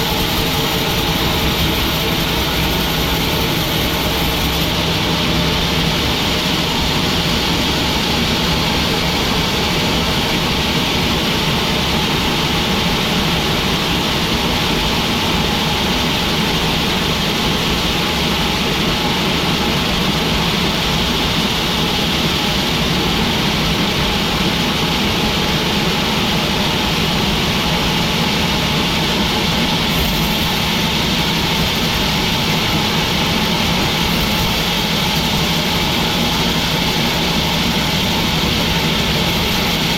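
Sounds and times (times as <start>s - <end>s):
sawmill machinery drone: 0.0s - 39.9s
steady hum: 0.0s - 39.9s.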